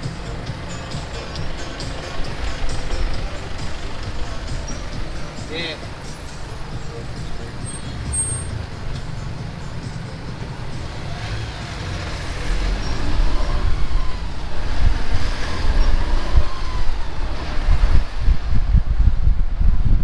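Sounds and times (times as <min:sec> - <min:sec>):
road noise: 0:00.0 - 0:20.0
vehicle engine rumble: 0:00.0 - 0:20.0.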